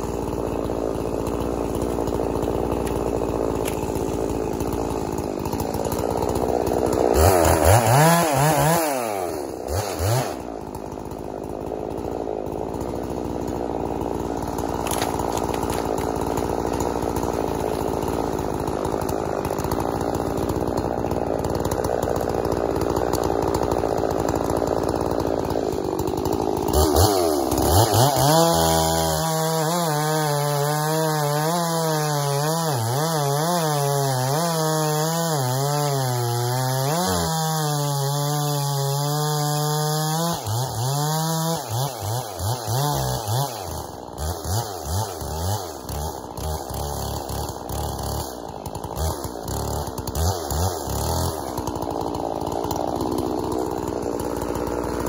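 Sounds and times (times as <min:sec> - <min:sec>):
chainsaw revving and cutting: 0:00.0 - 0:55.0.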